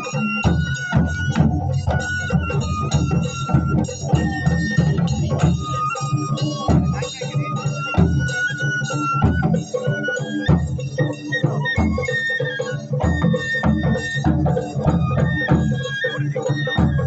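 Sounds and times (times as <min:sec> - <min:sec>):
heavy drum strokes: 0:00.0 - 0:17.0
high bamboo flute melody: 0:00.0 - 0:17.0.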